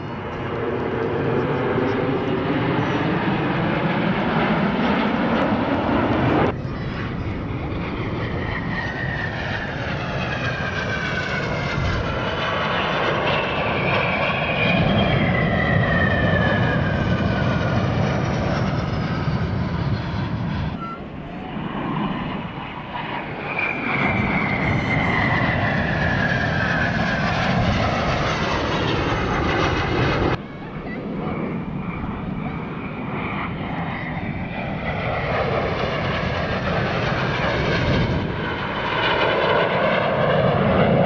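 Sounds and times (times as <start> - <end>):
jet aircraft flying past: 0.0 - 41.0.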